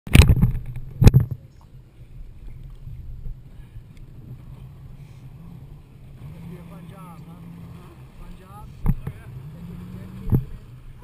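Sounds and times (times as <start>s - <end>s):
water slapping against camera: 0.1s - 4.8s, 5.5s - 11.0s
low rumble of tube on water: 0.1s - 11.0s.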